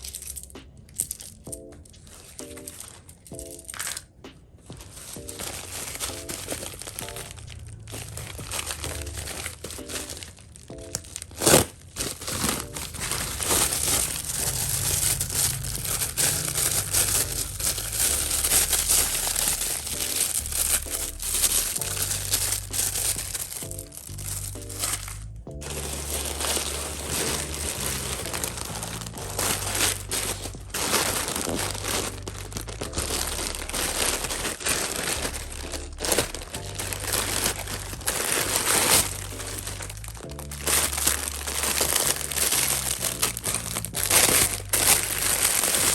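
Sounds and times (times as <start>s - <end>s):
background music with bass line: 0.0s - 45.9s
packaging crinkling: 0.0s - 45.9s.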